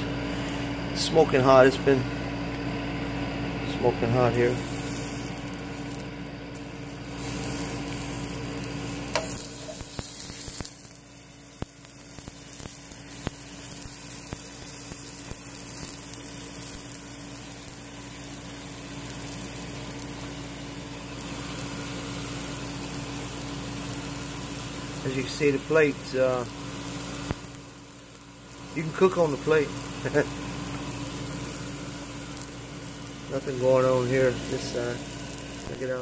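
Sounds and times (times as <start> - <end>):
steady hum: 0.0 - 36.0
ice sizzling on hot metal: 4.0 - 36.0.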